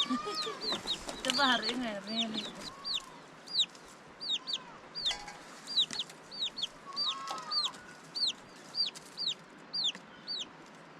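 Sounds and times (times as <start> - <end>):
chicks peeping: 0.0 - 10.5.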